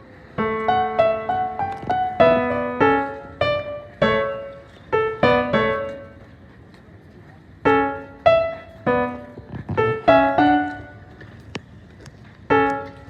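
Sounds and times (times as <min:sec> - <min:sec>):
piano notes and chords: 0:00.0 - 0:06.4, 0:07.6 - 0:11.4, 0:12.4 - 0:13.0.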